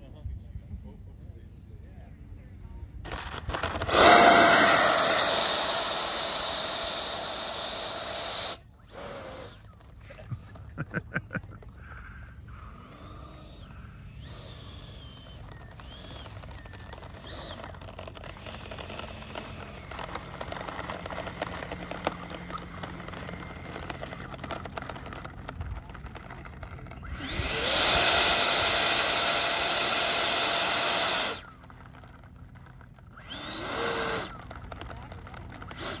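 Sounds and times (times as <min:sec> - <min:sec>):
model jet fan whine: 0:02.4 - 0:36.0.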